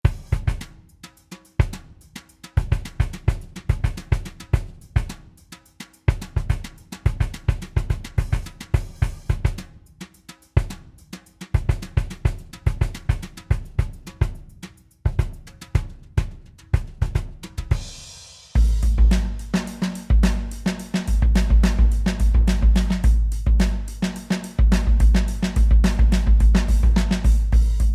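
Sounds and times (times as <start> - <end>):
drum kit groove: 0.0 - 27.9.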